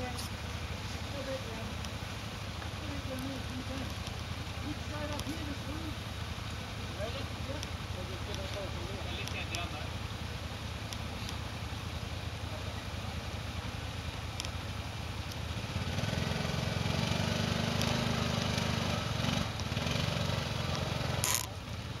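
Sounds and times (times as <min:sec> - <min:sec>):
quad bike engine: 0:00.0 - 0:22.0.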